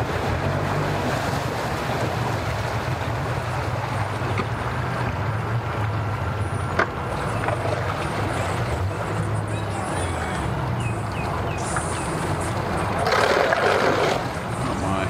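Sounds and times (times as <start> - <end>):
outboard motor running: 0.0 - 15.0
water wash: 0.0 - 15.0.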